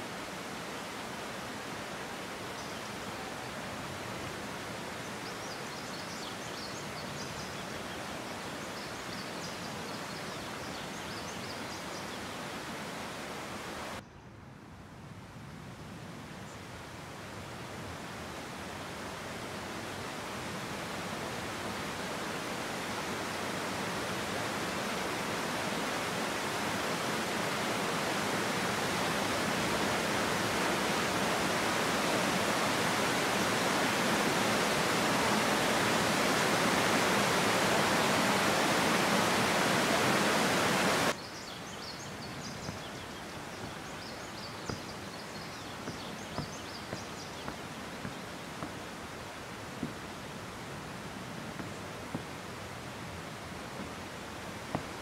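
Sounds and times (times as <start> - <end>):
waterfall rushing: 0.0 - 14.0, 16.9 - 55.0.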